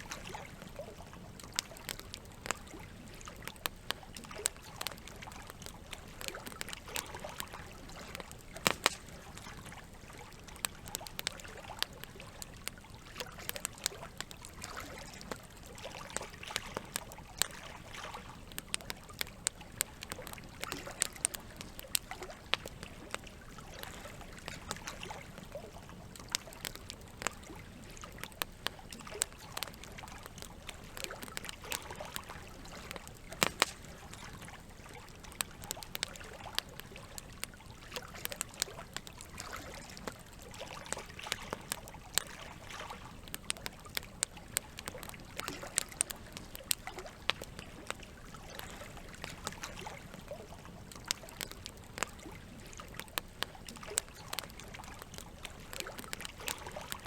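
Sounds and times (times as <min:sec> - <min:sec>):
campfire crackling and popping: 0:00.0 - 0:57.0
running water trickling: 0:00.0 - 0:57.0.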